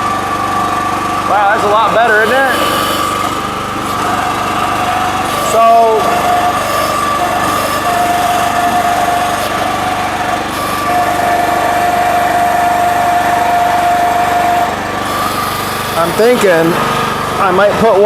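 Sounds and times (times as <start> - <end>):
high steady whine: 0.0 - 18.0
small gasoline engine running: 0.0 - 18.0.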